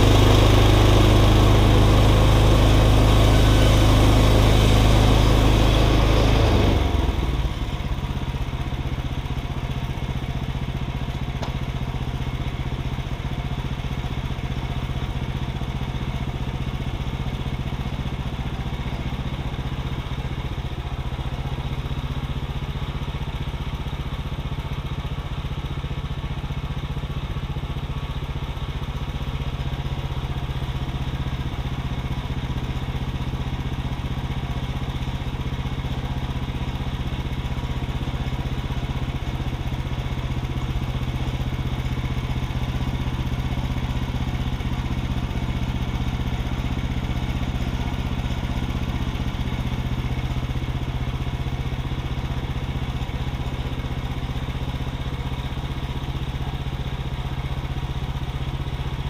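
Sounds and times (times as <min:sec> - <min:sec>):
sawmill gas engine running: 0:00.0 - 0:59.0.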